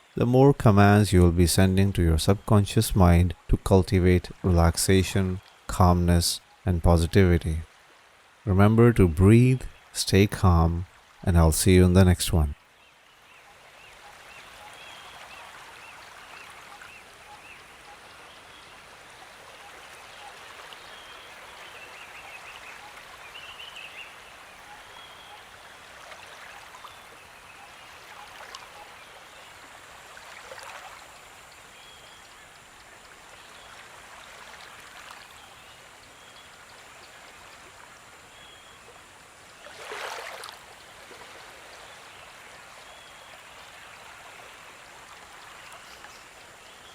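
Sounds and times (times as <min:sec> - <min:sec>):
stream running: 0:00.0 - 0:46.9.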